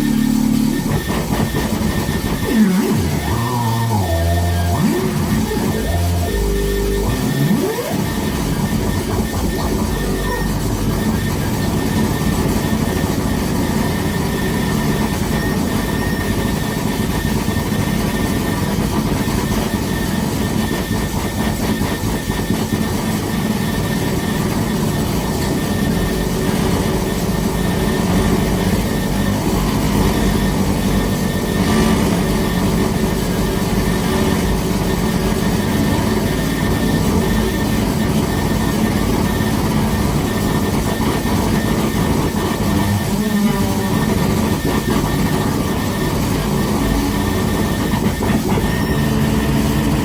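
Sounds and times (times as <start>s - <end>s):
rumbling electronic noise music: 0.0s - 50.0s.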